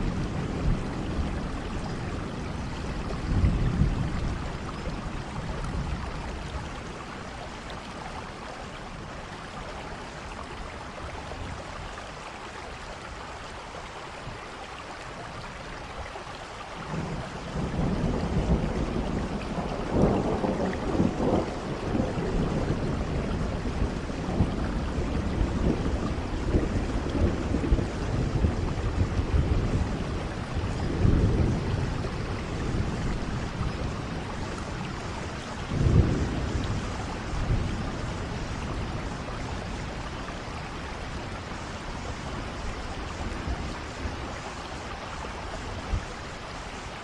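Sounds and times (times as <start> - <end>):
rolling thunder rumble: 0.0 - 8.4, 16.9 - 46.5
rainfall hiss: 0.0 - 47.0.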